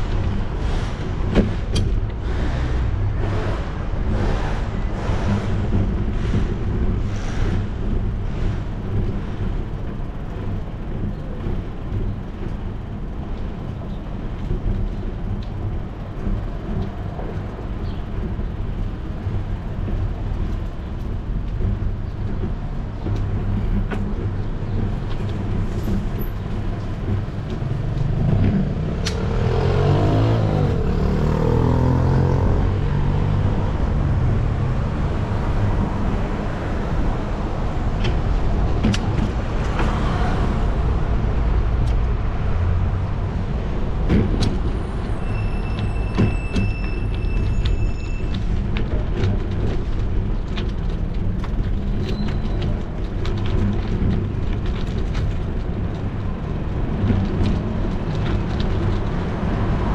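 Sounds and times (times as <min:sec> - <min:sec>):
bicycle rolling over pavement: 0:00.0 - 0:59.9
motor vehicle engine: 0:00.0 - 0:59.9
street traffic: 0:00.0 - 0:59.9.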